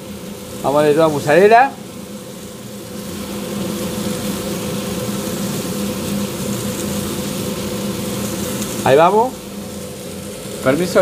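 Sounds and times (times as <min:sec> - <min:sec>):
sausages sizzling on a griddle: 0:00.0 - 0:11.0.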